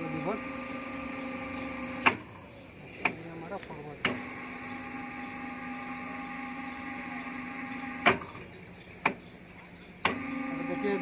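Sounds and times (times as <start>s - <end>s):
electric motor humming: 0.0s - 8.5s, 10.0s - 11.0s.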